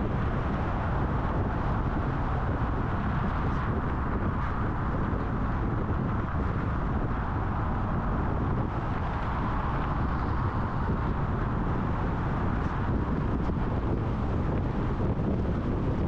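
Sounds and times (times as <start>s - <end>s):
car road noise at highway speed: 0.0s - 16.0s.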